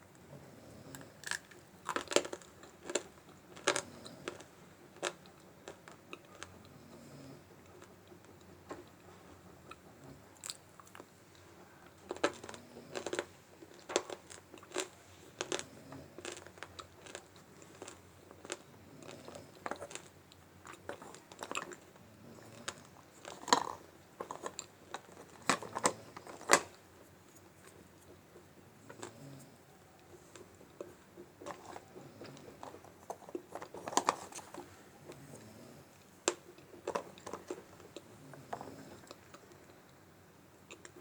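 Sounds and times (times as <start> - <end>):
crunching and chewing dry clay: 0.1 - 41.0.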